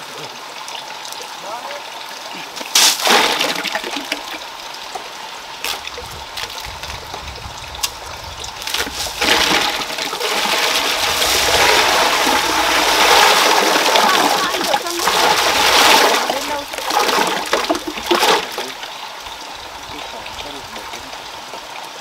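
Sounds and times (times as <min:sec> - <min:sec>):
water gushing and splashing: 0:00.0 - 0:22.0.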